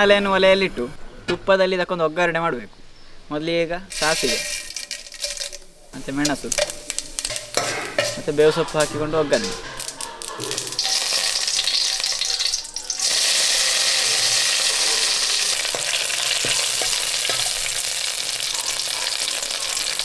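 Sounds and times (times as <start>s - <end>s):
spices sizzling in hot ghee: 3.9s - 20.0s.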